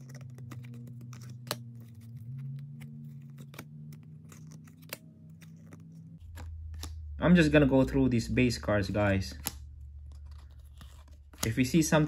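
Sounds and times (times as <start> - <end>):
cards clicking and scraping: 0.0 - 7.1, 8.9 - 12.0.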